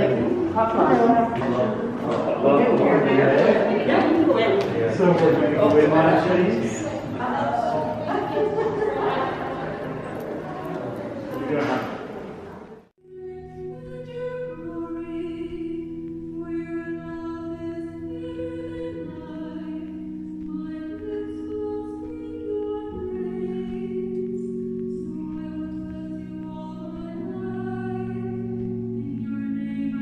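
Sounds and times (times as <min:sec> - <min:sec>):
choir singing long chords: 0:05.4 - 0:30.0.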